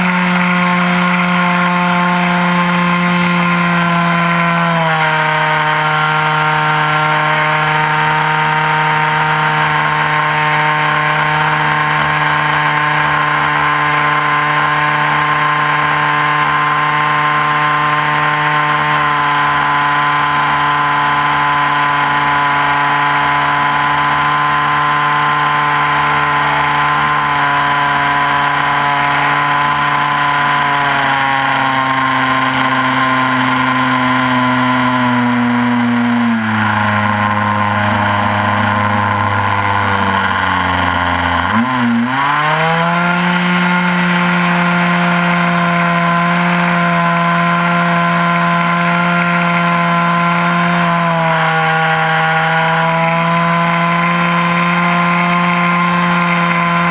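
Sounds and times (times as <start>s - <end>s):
model aircraft engine buzzing: 0.0s - 56.9s.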